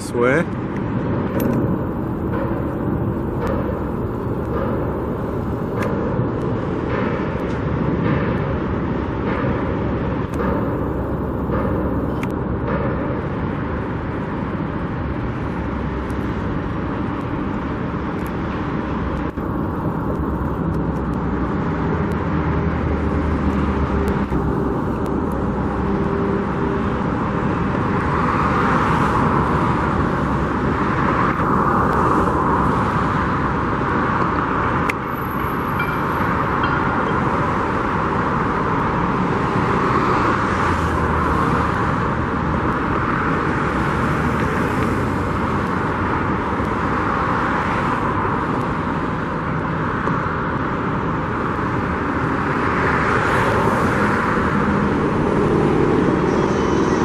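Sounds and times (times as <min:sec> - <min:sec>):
low engine hum: 0:00.0 - 0:57.0
vehicles passing: 0:00.0 - 0:57.0.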